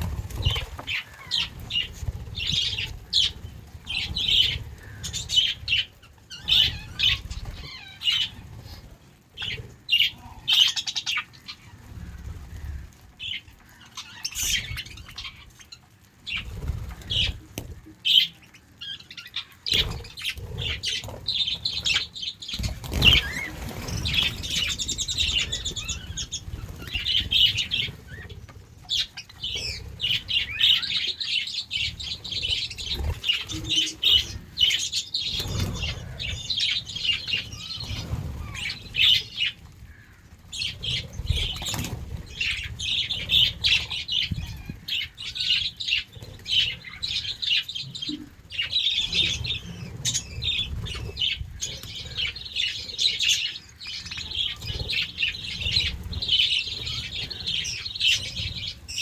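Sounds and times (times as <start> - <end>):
budgerigars chirping and chattering: 0.0 - 59.0.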